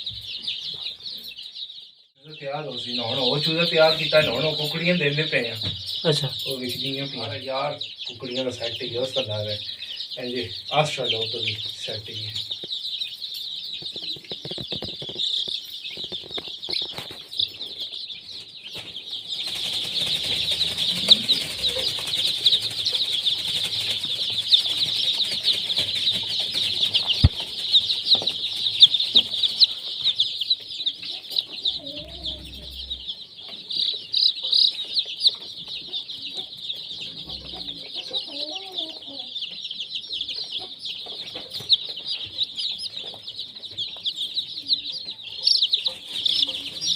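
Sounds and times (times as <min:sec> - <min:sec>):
chicks peeping: 0:00.0 - 0:46.9
hen clucks: 0:02.3 - 0:18.1, 0:19.9 - 0:46.9.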